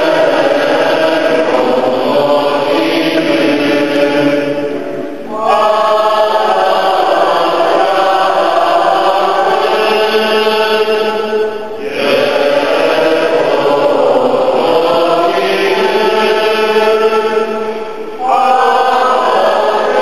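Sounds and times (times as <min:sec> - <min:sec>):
congregation singing a hymn: 0:00.0 - 0:20.0.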